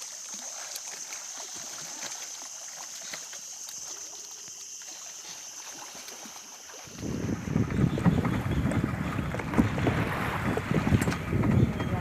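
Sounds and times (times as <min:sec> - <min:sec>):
water trickling around boat: 0:00.0 - 0:12.0.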